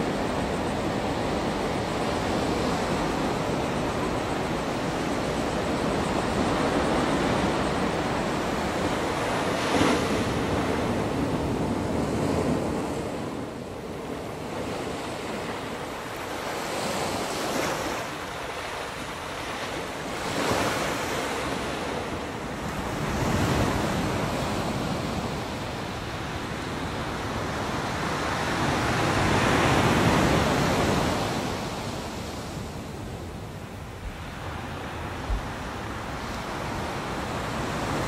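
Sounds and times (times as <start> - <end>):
waves breaking on a beach: 0.0 - 38.0.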